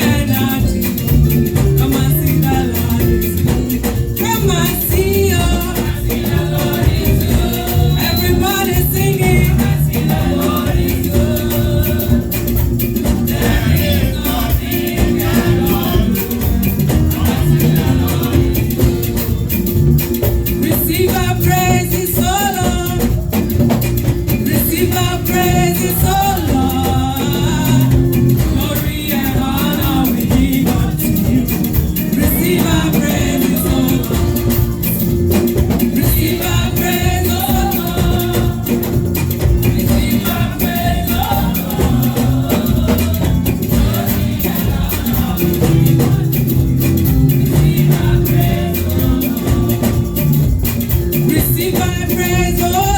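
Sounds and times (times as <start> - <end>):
guitar: 0.0 - 52.9
live band playing: 0.0 - 52.9
shaker: 0.0 - 52.9.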